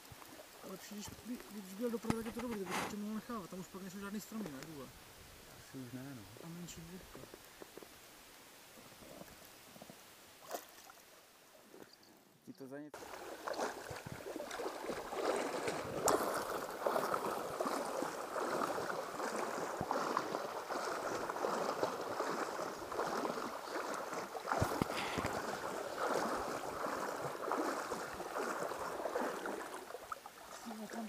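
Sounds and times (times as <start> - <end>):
river water lapping and sloshing: 0.0 - 11.8, 12.9 - 31.0.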